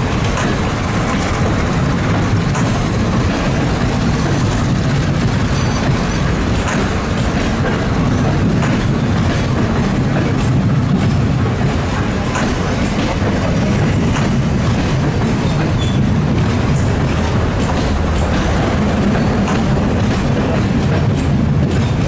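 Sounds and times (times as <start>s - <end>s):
clickety-clack of wheels on rail joints: 0.0s - 22.0s
train wheels rumbling: 0.0s - 22.0s.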